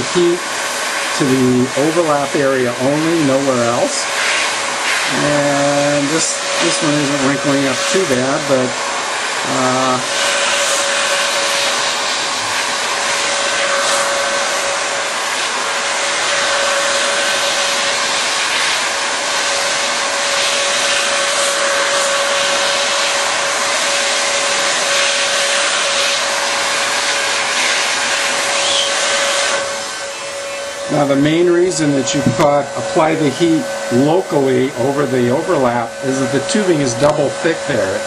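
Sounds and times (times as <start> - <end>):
heat gun blowing air: 0.0 - 38.0
motor whine: 0.0 - 38.0.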